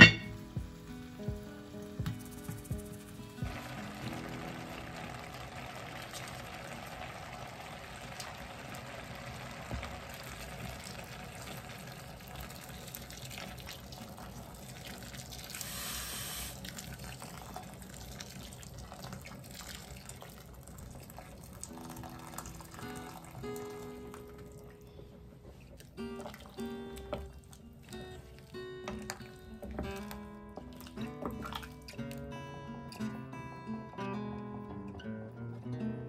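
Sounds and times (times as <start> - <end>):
liquid pouring into pot: 1.7 - 25.0, 25.8 - 32.3.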